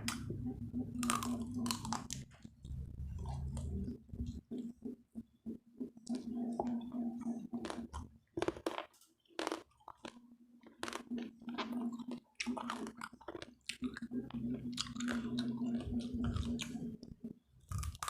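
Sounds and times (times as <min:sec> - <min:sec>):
person chewing crunchy food: 0:01.0 - 0:04.6, 0:06.0 - 0:18.0.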